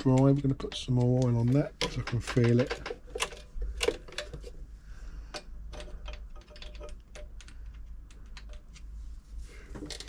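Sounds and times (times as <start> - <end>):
tools clicking on metal parts: 0.0 - 4.6, 5.3 - 8.9.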